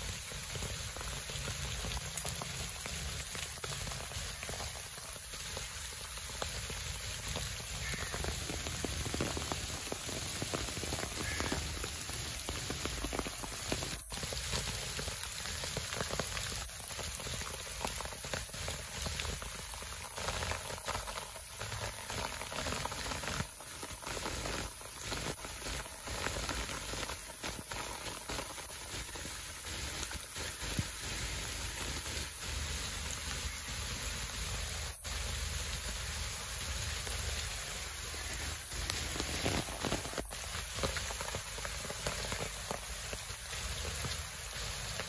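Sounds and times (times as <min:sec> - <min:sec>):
steady rain on foliage: 0:00.0 - 0:45.0.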